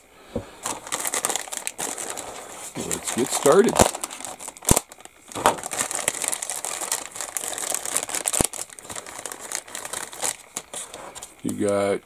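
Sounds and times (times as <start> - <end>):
plastic bag crinkling: 0.6 - 11.9.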